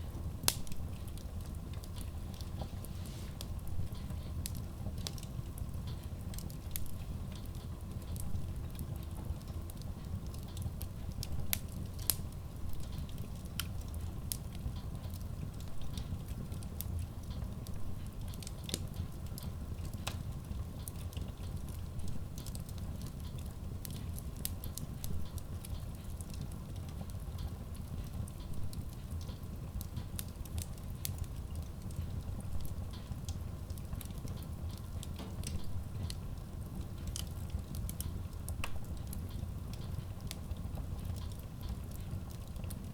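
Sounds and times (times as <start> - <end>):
burning logs crackling: 0.0 - 42.9
flames rumbling: 0.0 - 42.9.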